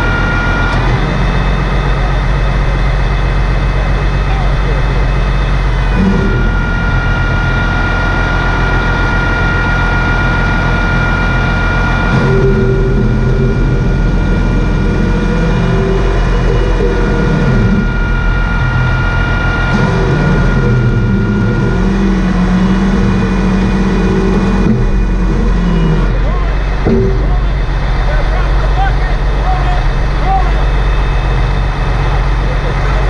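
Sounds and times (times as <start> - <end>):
heavy diesel engine running: 0.0 - 33.0
steady high whine: 0.0 - 33.0.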